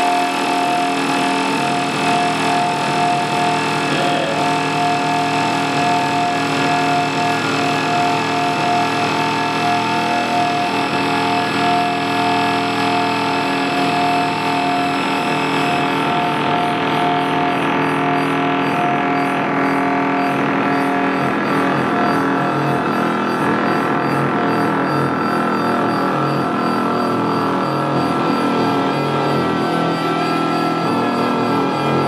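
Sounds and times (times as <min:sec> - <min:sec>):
electronic drone of held tones: 0:00.0 - 0:32.0
noisy hum: 0:00.0 - 0:32.0.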